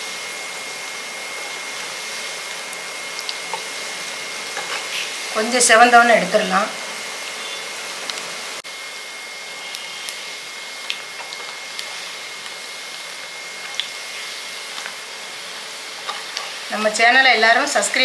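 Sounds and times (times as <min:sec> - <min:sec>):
deep-frying sizzle in oil: 0:00.0 - 0:18.0.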